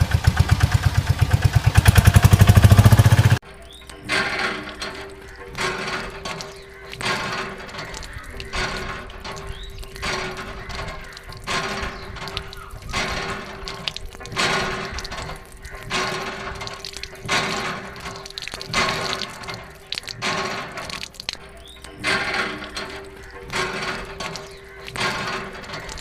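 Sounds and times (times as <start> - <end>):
water pouring in surges: 0.0 - 26.0.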